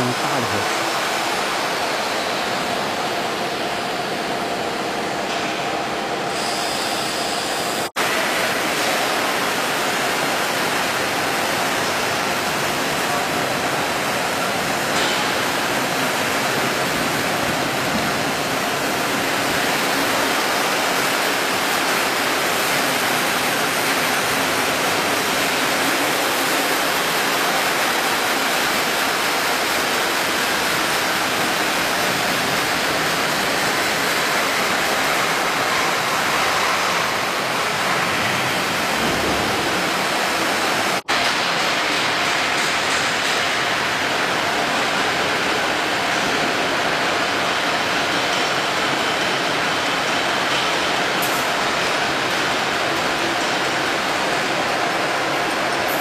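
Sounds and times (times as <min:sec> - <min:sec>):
workshop hiss: 0:00.0 - 0:56.0.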